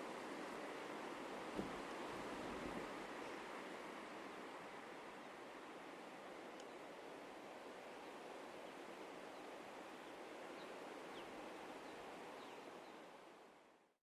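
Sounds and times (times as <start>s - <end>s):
wind rustling grass and trees: 0.0s - 14.0s.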